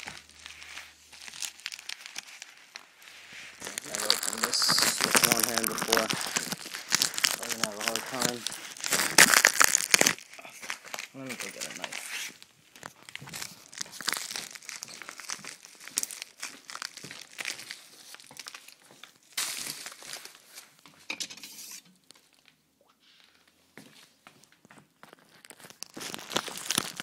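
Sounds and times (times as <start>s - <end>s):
package wrapping rustling: 0.0s - 20.8s, 24.9s - 27.0s.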